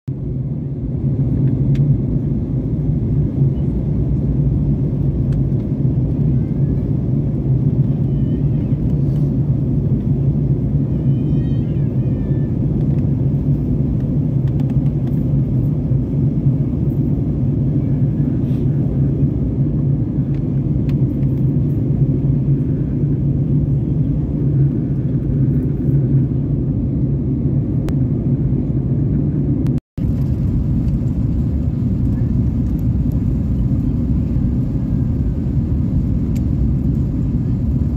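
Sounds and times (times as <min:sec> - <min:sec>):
jet airliner cabin rumble: 0:00.1 - 0:37.9.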